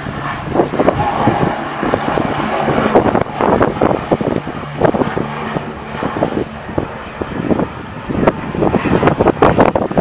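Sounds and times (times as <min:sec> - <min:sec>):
turboprop engines droning: 0:00.0 - 0:10.0
wind buffeting microphone: 0:00.0 - 0:10.0.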